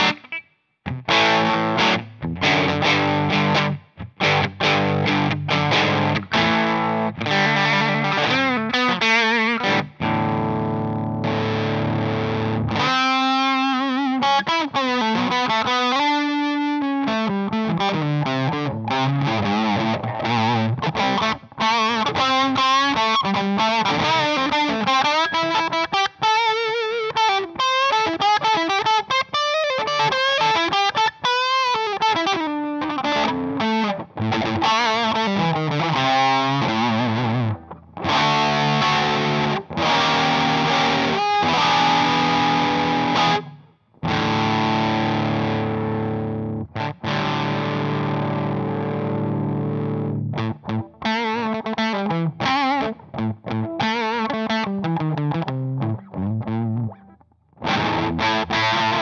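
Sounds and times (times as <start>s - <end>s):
fuzzy electric guitar: 0.0s - 59.0s.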